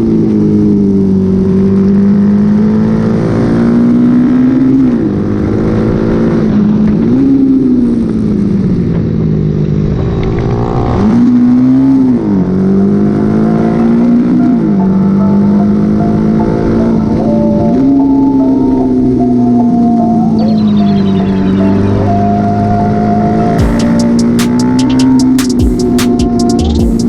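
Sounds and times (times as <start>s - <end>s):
motorcycle engine revving: 0.0s - 19.6s, 21.9s - 27.0s.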